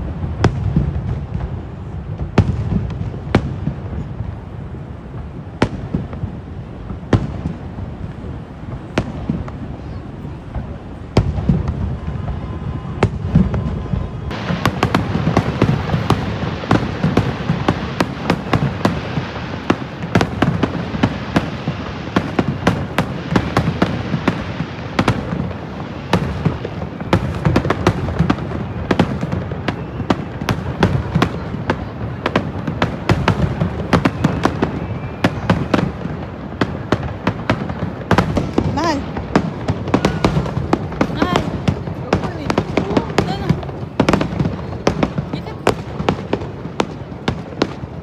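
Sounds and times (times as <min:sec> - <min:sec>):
loud firework boom: 0:00.0 - 0:04.4, 0:05.1 - 0:25.4, 0:32.8 - 0:47.8
fireworks crackling and popping: 0:00.0 - 0:48.0.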